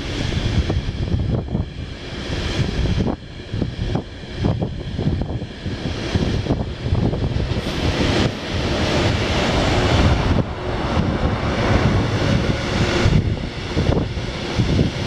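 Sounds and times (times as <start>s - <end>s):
train wheels rumbling on rails: 0.0s - 15.0s
wind buffeting microphone: 0.0s - 15.0s.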